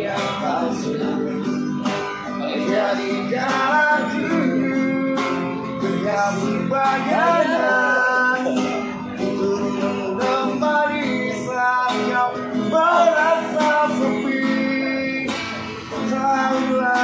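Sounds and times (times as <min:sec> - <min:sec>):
man singing: 0:00.0 - 0:17.0
strummed acoustic guitar: 0:00.0 - 0:17.0.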